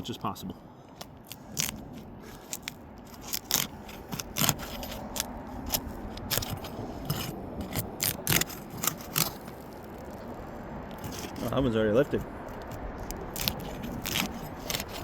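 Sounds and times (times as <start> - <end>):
shingle seals cracking and scraping: 0.8 - 15.0.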